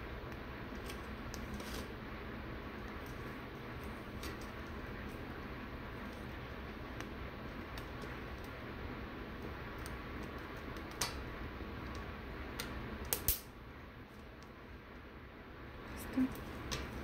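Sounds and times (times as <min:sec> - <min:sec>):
gas burner flame hissing: 0:00.0 - 0:17.0.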